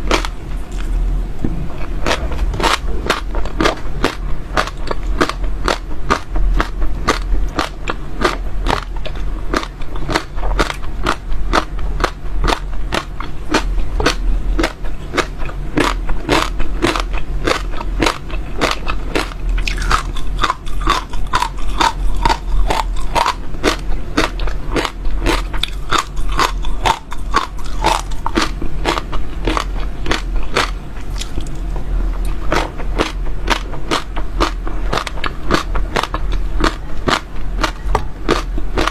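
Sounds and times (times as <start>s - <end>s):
chewing crunchy seeds: 0.0s - 1.0s, 1.7s - 38.9s
low steady hum: 0.0s - 38.9s.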